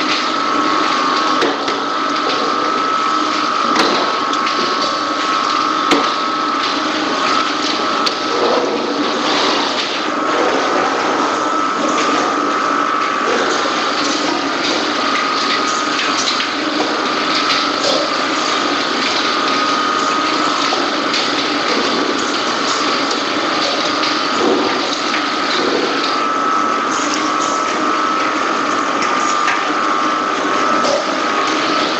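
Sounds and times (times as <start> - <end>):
machinery whine: 0.0 - 31.9.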